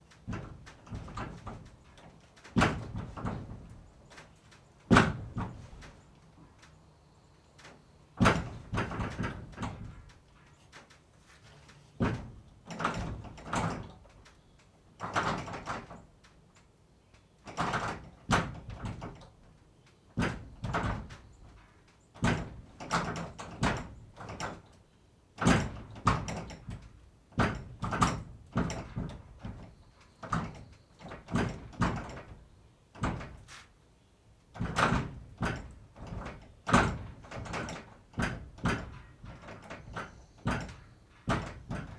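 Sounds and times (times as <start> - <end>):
barn door knocking and rattling: 0.0 - 6.0, 8.2 - 11.0, 12.0 - 16.2, 17.4 - 24.8, 25.4 - 33.6, 34.4 - 41.9.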